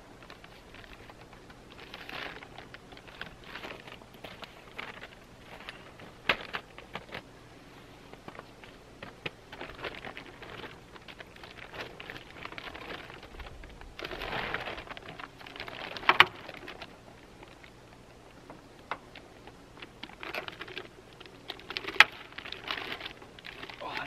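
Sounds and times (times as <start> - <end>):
plastic tarp rustling and crinkling: 0.0 - 24.0.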